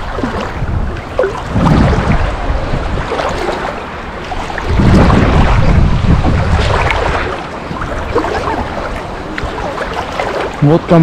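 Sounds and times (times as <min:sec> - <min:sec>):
low rush of water: 0:00.0 - 0:11.0
water sloshing against camera: 0:00.0 - 0:11.0.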